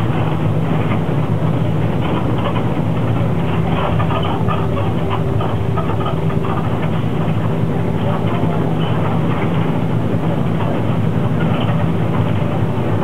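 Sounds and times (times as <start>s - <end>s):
bus engine hum: 0.0s - 13.0s.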